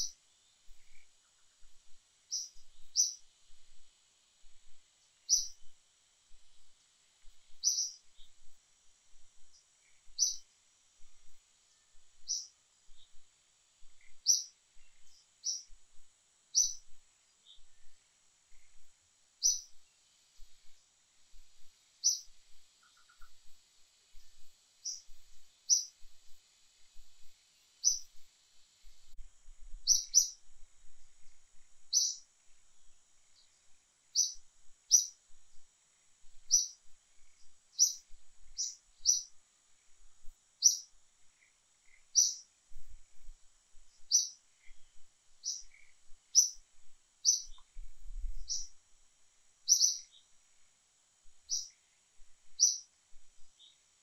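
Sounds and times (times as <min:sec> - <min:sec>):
bird chirping: 0:00.0 - 0:03.8, 0:04.7 - 0:05.8, 0:06.5 - 0:08.6, 0:09.4 - 0:29.2, 0:29.8 - 0:30.5, 0:31.6 - 0:35.2, 0:36.4 - 0:39.9, 0:40.6 - 0:43.3, 0:43.9 - 0:48.8, 0:49.6 - 0:50.4, 0:51.4 - 0:53.8
faint high hum: 0:00.0 - 0:54.0.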